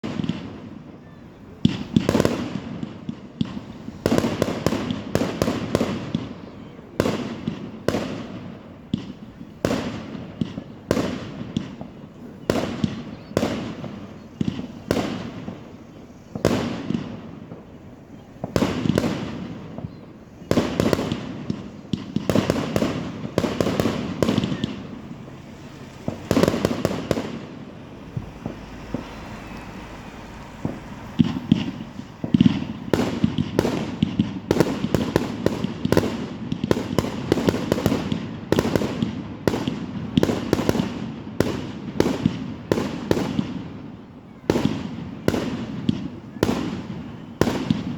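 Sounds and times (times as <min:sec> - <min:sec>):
fireworks exploding: 0:00.0 - 0:47.9.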